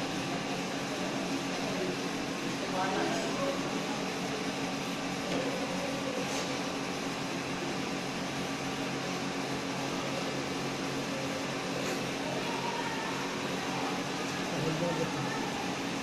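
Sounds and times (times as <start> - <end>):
steady low machine hum: 0.0 - 16.0.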